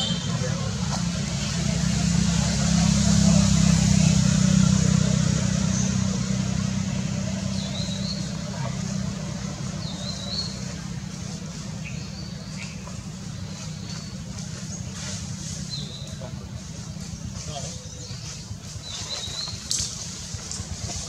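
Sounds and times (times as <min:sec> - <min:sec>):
vehicle engine rumble passing: 0:00.0 - 0:21.0.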